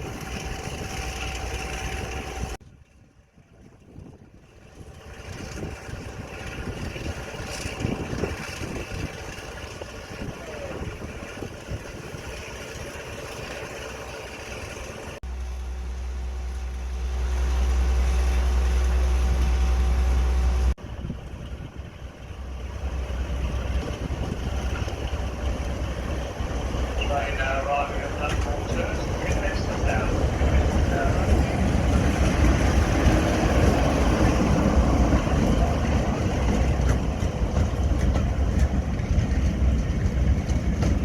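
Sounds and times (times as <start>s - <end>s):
diesel locomotive engines running: 0.0s - 41.0s.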